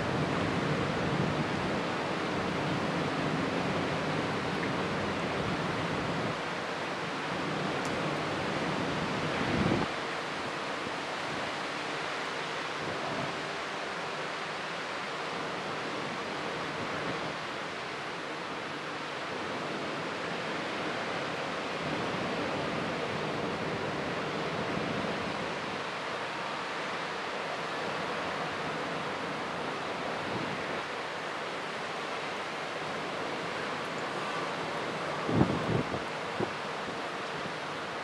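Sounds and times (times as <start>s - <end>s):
rushing wind: 0.0s - 38.0s.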